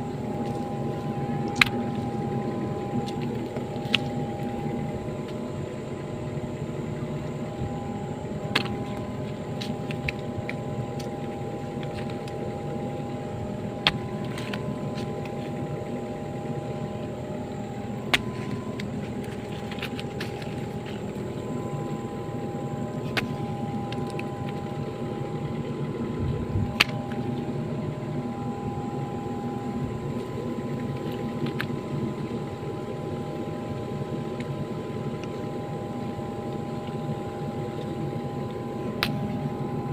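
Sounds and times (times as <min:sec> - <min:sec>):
diesel engine running: 0:00.0 - 0:39.9
high steady whine: 0:00.0 - 0:39.9.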